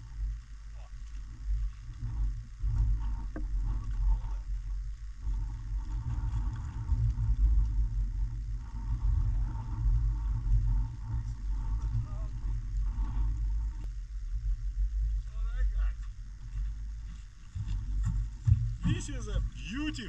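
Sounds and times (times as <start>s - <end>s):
wind buffeting microphone: 1.3s - 20.0s.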